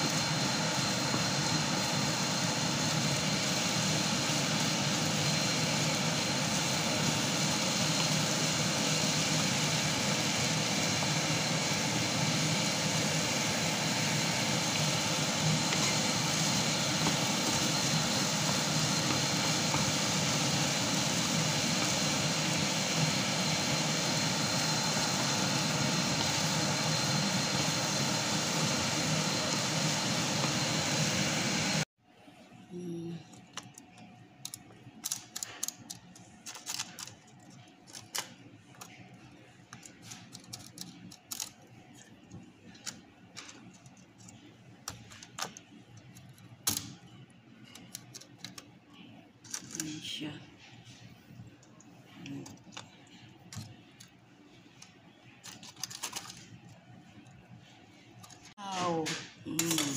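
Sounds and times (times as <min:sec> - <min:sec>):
cooker fan humming with whine: 0:00.0 - 0:59.9.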